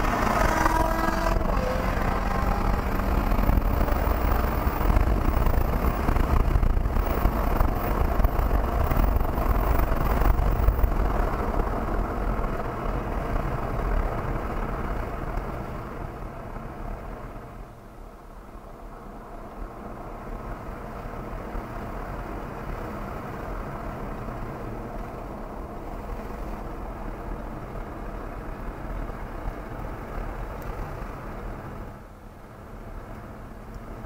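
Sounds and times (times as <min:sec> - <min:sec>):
car engine running hard: 0:00.0 - 0:34.0
road and wind noise: 0:00.0 - 0:34.0.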